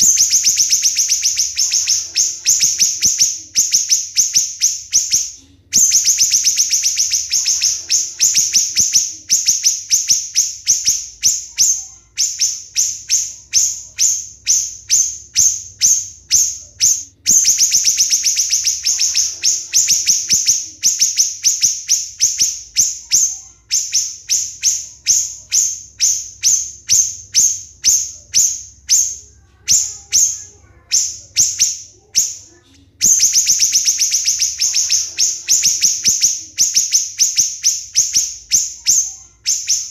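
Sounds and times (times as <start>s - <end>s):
bird singing high-pitched notes: 0.0s - 39.9s.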